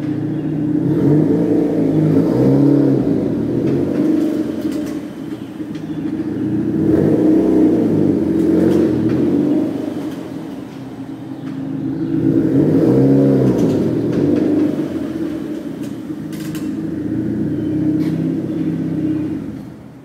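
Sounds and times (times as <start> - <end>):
car engine revving: 0.0 - 11.2, 11.8 - 19.6.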